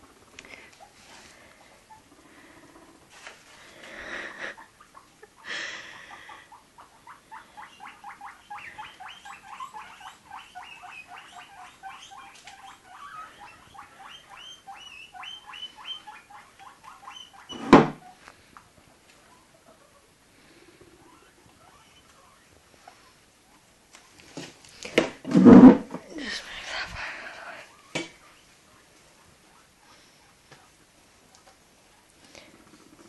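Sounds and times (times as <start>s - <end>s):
guinea pigs squeaking: 0.0s - 24.8s, 27.6s - 33.0s.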